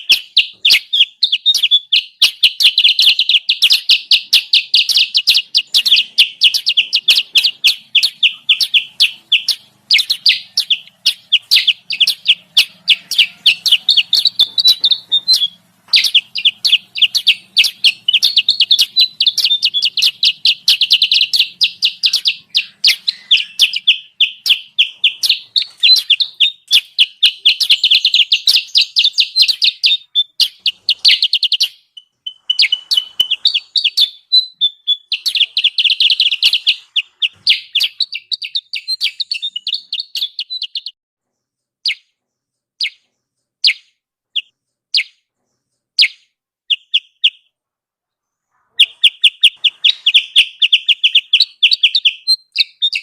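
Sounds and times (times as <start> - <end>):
rapid high bird chirps: 0.0 - 53.0.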